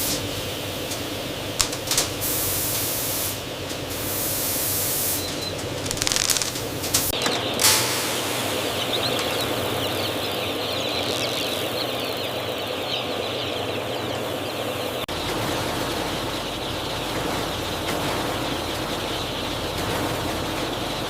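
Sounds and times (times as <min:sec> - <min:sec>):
steady mechanical hum: 0:00.0 - 0:21.0
chicks peeping: 0:03.7 - 0:21.0.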